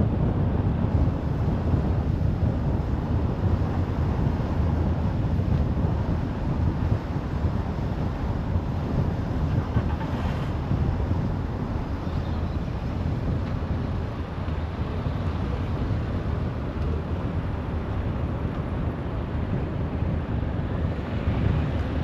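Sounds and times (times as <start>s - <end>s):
motorway traffic rushing: 0.0s - 22.0s
wind on microphone: 0.0s - 22.0s.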